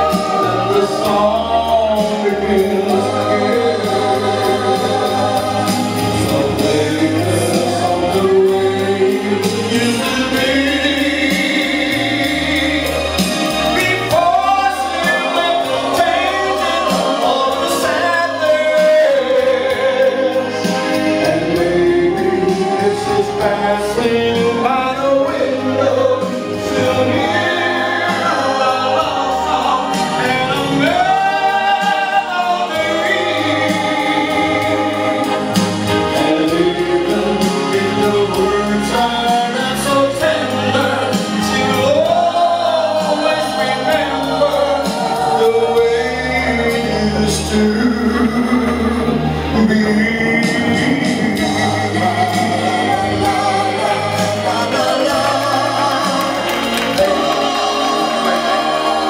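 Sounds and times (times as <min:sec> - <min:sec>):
instrumental backing music: 0:00.0 - 0:59.0
man singing into a microphone: 0:00.0 - 0:59.0.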